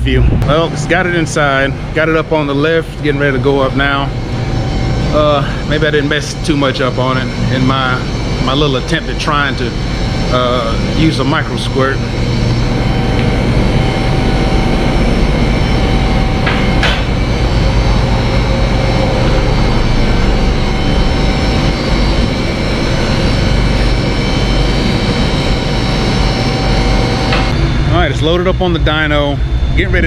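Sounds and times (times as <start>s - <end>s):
mechanical running noise: 0.0s - 30.0s.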